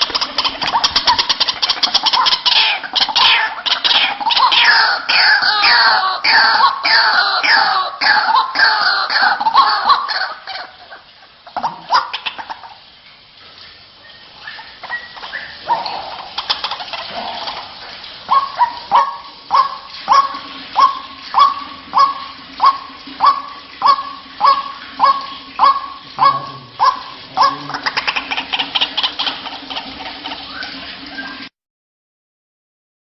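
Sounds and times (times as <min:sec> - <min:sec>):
waterhen harsh calls: 0:00.0 - 0:31.5.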